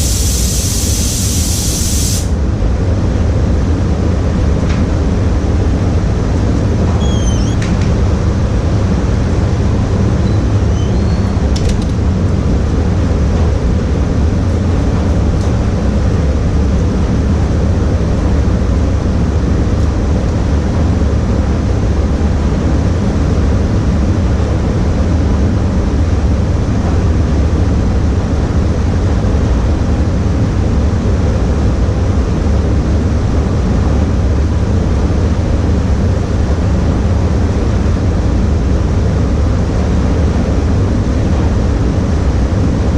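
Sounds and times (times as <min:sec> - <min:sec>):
ventilation air rushing: 0:00.0 - 0:10.8, 0:11.4 - 0:42.9.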